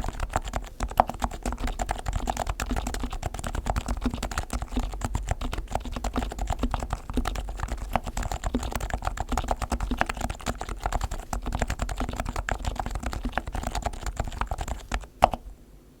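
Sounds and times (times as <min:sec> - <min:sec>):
fast typing on keyboard: 0:00.0 - 0:15.5.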